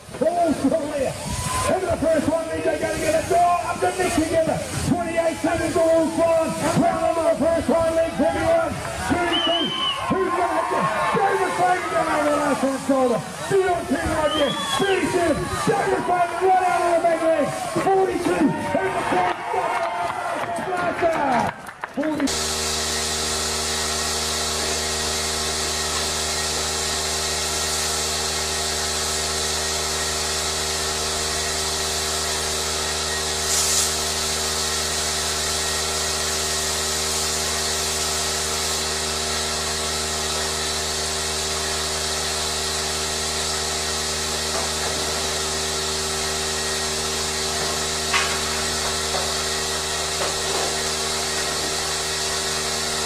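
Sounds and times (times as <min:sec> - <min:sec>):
machinery humming and hissing: 0:00.0 - 0:19.5, 0:22.0 - 0:53.0.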